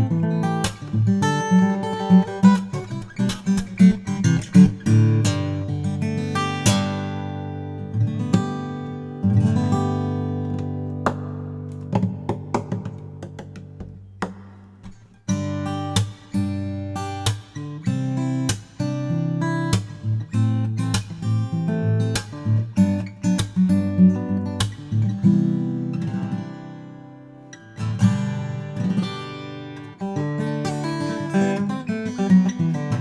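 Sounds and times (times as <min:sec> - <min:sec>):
acoustic guitar playing: 0:00.0 - 0:33.0.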